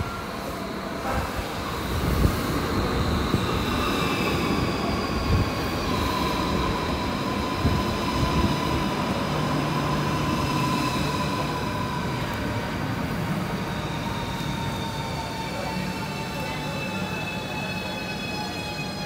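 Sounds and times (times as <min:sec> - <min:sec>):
train low rumble: 0:00.0 - 0:17.2
high whine of held tones: 0:00.0 - 0:19.0.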